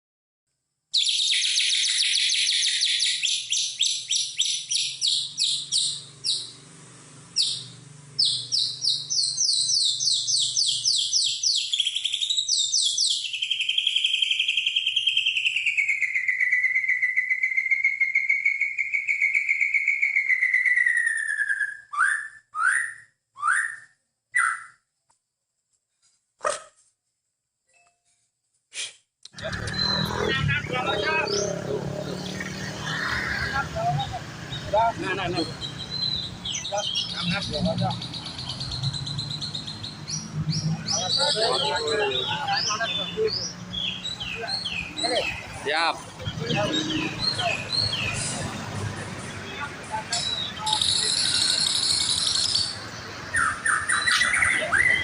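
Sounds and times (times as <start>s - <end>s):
songbird singing: 0.9s - 25.0s, 29.3s - 55.0s.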